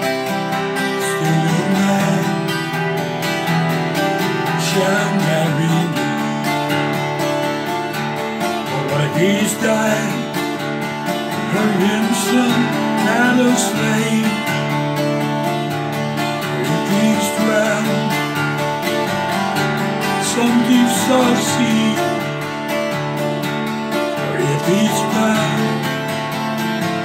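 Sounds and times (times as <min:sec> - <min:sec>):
man singing: 0:00.0 - 0:07.0, 0:07.6 - 0:23.0, 0:24.0 - 0:27.0
acoustic guitar strumming: 0:00.0 - 0:27.0.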